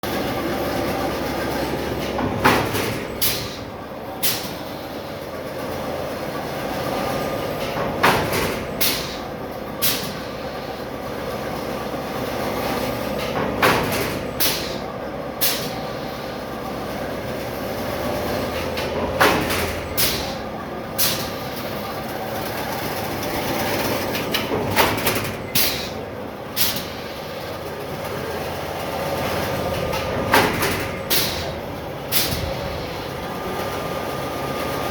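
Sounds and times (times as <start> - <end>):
machine motor hum: 0.1 - 34.9.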